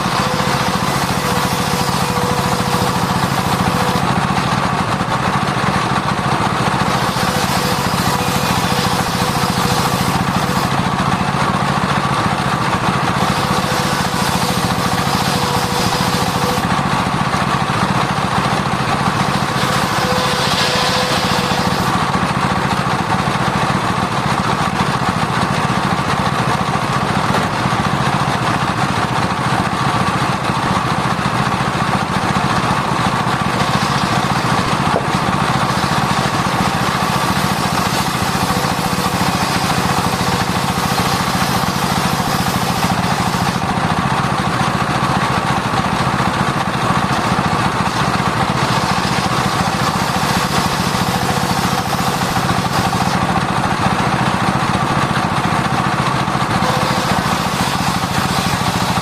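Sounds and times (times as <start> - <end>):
circular sawmill sawing timber: 0.0 - 59.0.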